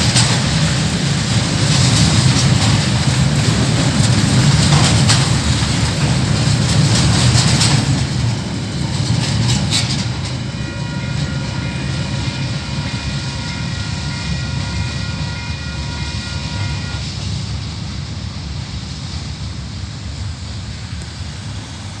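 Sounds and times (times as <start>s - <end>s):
train wagons rumbling: 0.0s - 22.0s.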